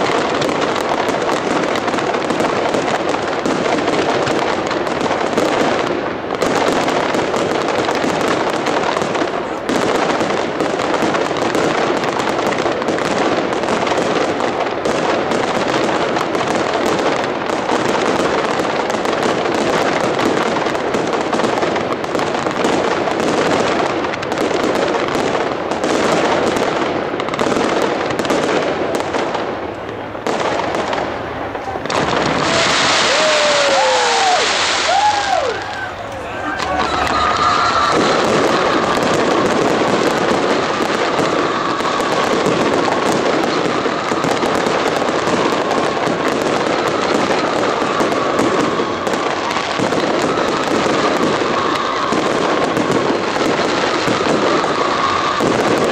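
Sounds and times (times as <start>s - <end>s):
fireworks crackling and banging: 0.0s - 55.9s.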